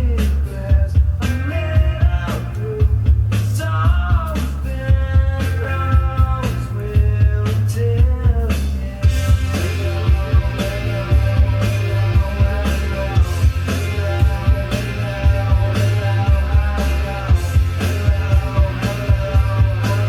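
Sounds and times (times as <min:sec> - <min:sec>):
heavy bass: 0:00.0 - 0:20.0
loud music with drum beat: 0:00.0 - 0:20.0.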